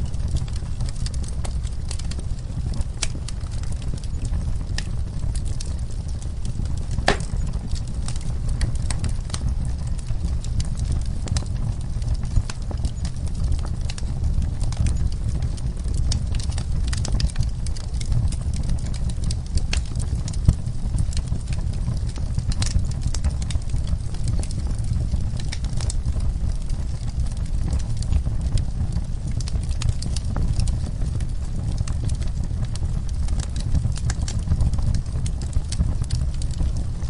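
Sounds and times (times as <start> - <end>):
logs crackling and popping: 0.0 - 37.0
low fire rumble: 0.0 - 37.0.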